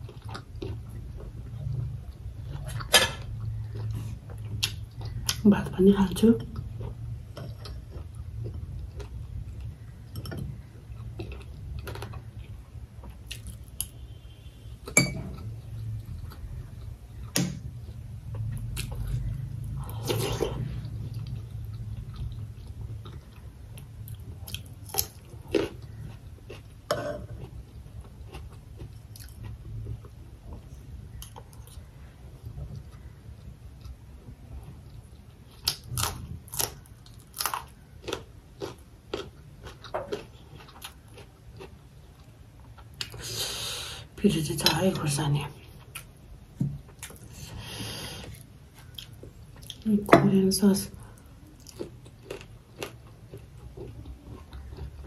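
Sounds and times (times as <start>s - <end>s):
person chewing food: 0.0s - 5.4s, 6.5s - 44.0s, 45.7s - 49.9s, 51.0s - 55.0s.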